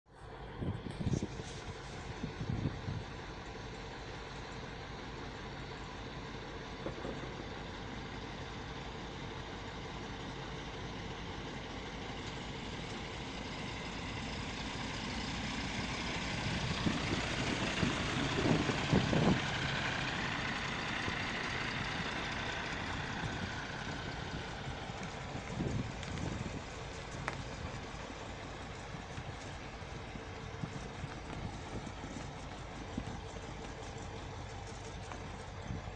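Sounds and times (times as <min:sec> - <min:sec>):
heavy vehicle engines whining: 0:00.1 - 0:35.9.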